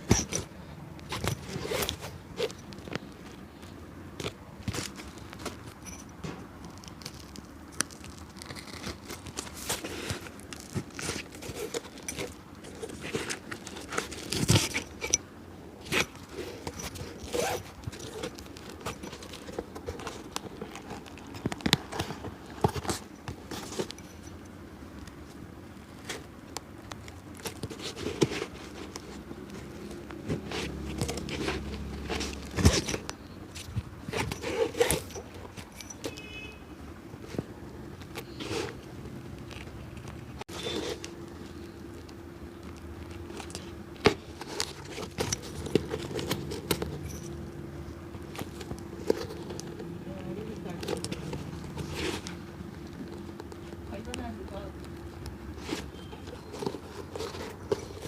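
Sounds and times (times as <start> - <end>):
scraping tearing and crinkling: 0.0 - 36.4, 37.1 - 58.0.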